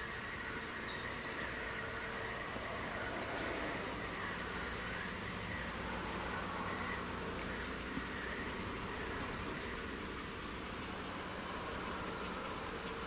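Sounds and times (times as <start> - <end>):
bird chirping: 0.0 - 13.0
steady low rumble: 0.4 - 13.0.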